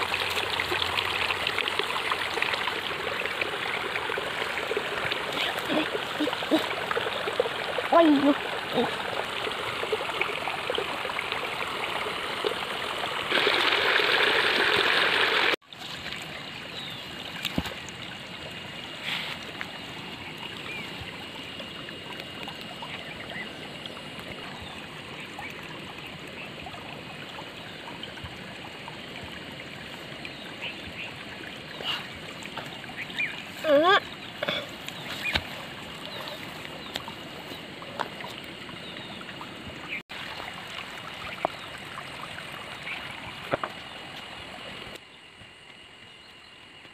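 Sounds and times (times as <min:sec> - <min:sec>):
rushing water: 0:00.0 - 0:45.0.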